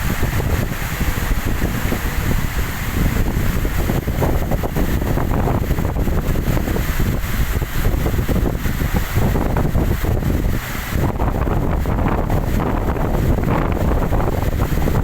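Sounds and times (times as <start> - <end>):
heavy rain pouring: 0.0 - 15.0
wind buffeting microphone: 0.0 - 15.0.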